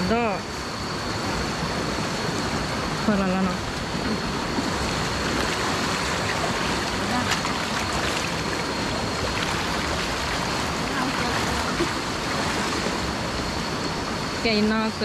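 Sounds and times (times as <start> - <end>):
stream water flowing: 0.0 - 15.0.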